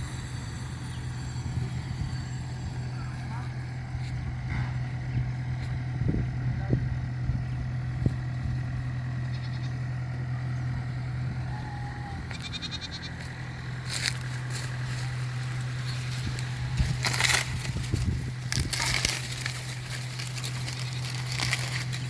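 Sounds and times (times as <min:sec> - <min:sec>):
combine harvester droning: 0:00.0 - 0:22.0.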